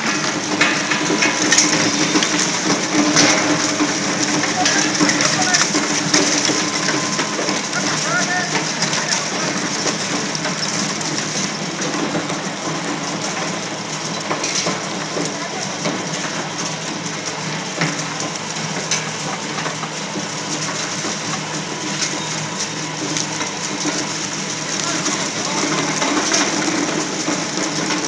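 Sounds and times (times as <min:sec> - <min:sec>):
shredder grinding: 0:00.0 - 0:28.0.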